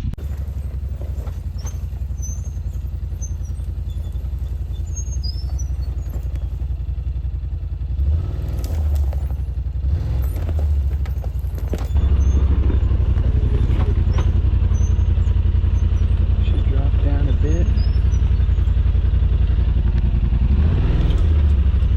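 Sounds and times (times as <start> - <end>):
utility vehicle engine revving: 0.0 - 21.9.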